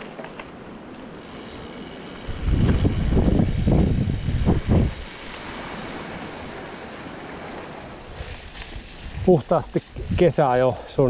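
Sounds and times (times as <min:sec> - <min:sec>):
wind buffeting microphone: 0:02.0 - 0:11.0.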